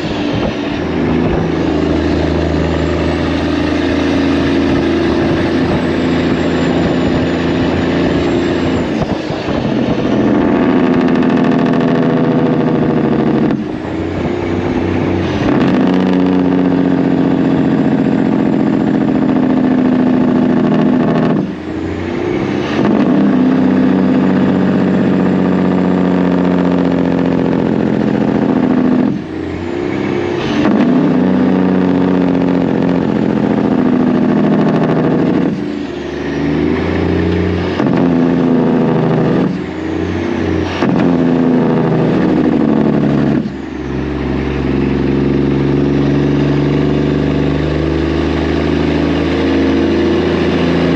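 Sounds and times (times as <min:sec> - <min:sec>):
diesel truck engine under load: 0:00.0 - 0:50.9.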